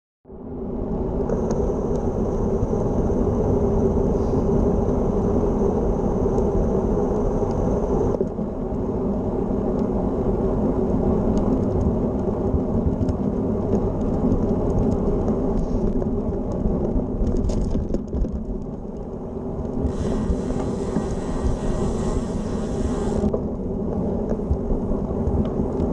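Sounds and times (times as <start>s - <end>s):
wind on microphone: 0.3s - 25.9s
bike tyres rolling on pavement: 0.6s - 25.9s.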